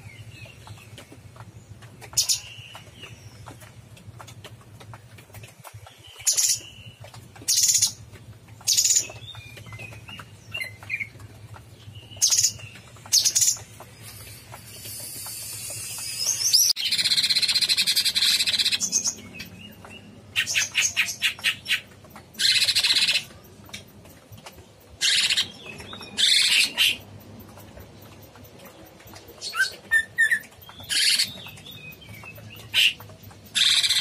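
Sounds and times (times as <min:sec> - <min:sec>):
bird singing: 0:00.0 - 0:03.8, 0:08.6 - 0:23.9, 0:24.5 - 0:34.0.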